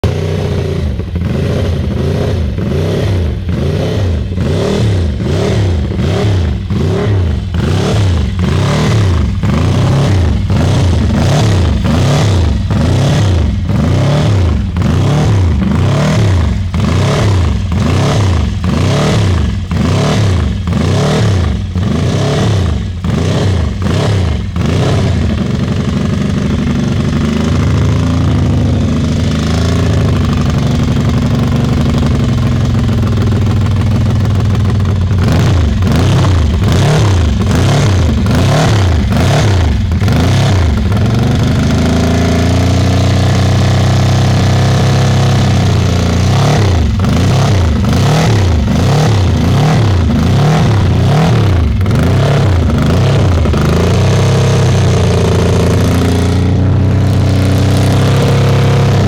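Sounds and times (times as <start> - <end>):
motorcycle engine blipping and idling: 0.0 - 59.0.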